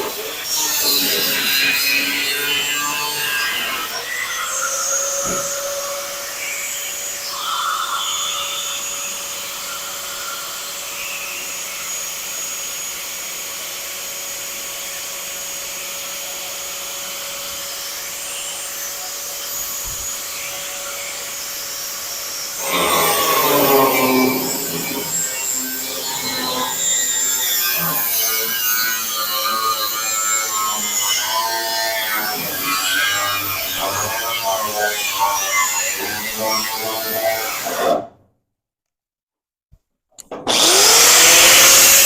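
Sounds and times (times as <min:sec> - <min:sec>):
power tool whining: 0:00.0 - 0:38.0, 0:40.3 - 0:42.0.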